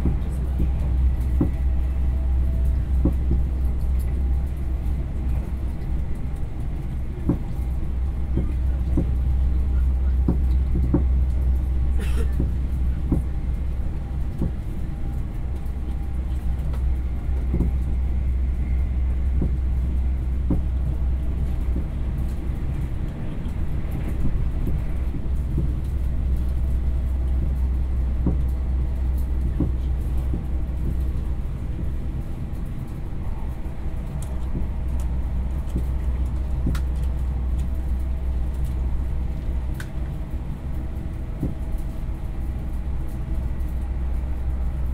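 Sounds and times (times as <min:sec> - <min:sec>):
train carriage rumble: 0:00.0 - 0:44.9.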